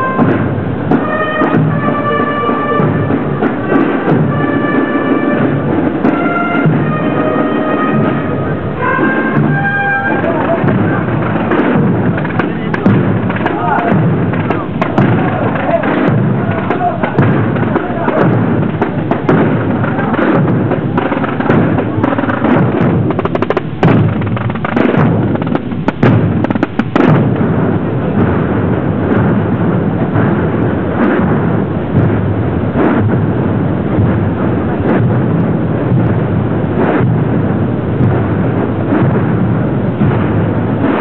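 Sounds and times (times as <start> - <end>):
massed snare and bass drums: 0.0 - 41.0.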